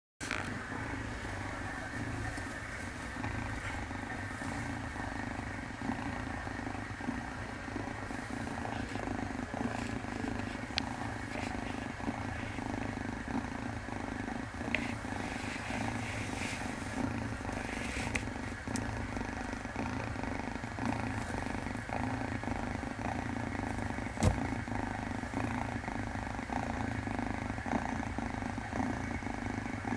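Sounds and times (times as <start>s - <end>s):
kitten purring: 0.2s - 29.9s.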